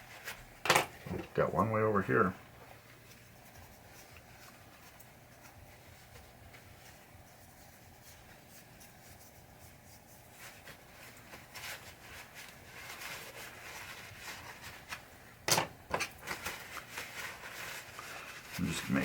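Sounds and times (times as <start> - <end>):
cloth rubbing over small parts: 0.0 - 19.0.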